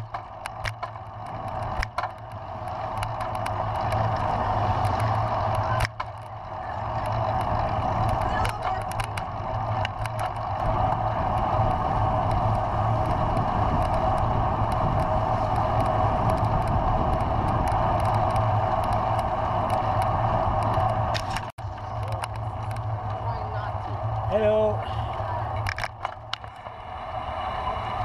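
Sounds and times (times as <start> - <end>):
bicycle tyres rolling on rough path: 0.0 - 28.0
wind noise: 0.0 - 28.0.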